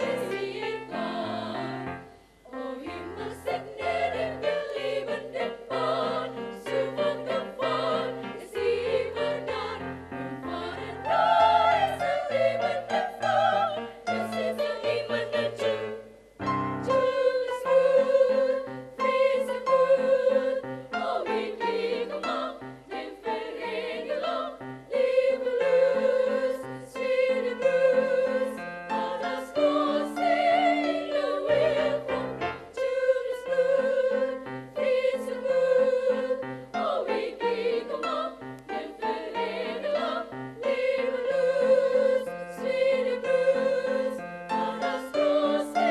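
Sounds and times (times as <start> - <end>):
women's choir singing: 0.0 - 45.9.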